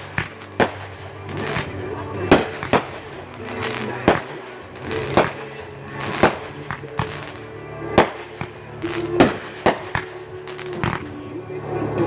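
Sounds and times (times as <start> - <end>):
fireworks bangs: 0.0 - 11.3
small fireworks pops: 0.0 - 11.3
music playing: 0.0 - 12.0.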